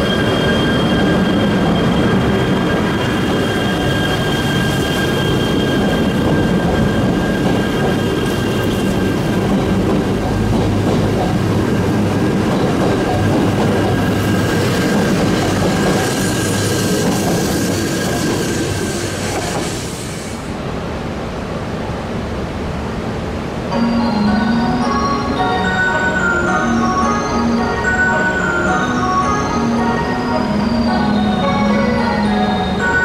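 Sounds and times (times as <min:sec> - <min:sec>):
train cars rumbling: 0:00.0 - 0:33.0.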